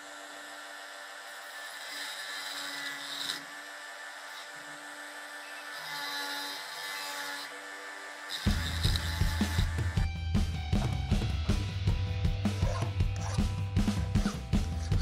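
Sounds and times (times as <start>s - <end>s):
rotary tool grinding metal: 0.0s - 9.9s, 12.6s - 15.0s.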